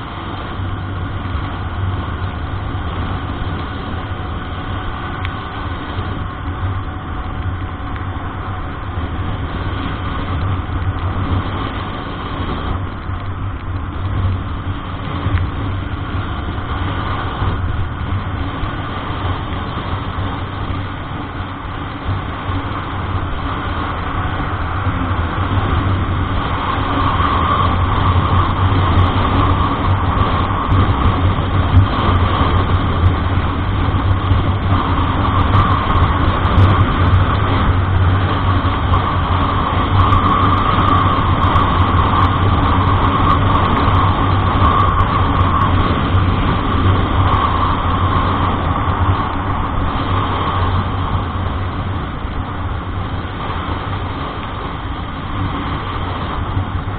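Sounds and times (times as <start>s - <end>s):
vehicle engine hum and road noise: 0.0s - 56.9s.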